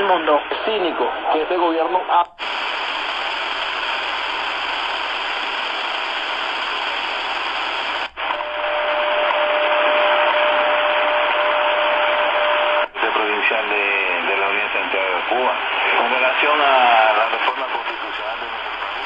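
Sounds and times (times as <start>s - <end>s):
radio static hiss: 0.0s - 19.0s
steady radio tone: 0.0s - 19.0s.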